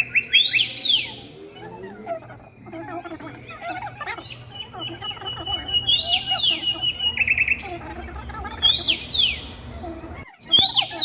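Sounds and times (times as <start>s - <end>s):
bird calling with sliding notes: 0.0s - 11.0s.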